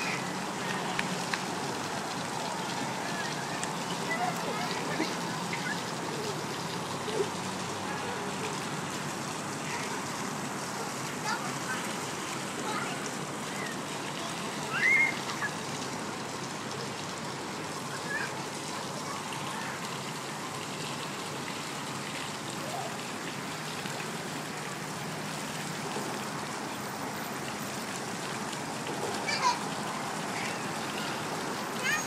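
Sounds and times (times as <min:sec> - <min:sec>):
water running and trickling: 0:00.0 - 0:32.0.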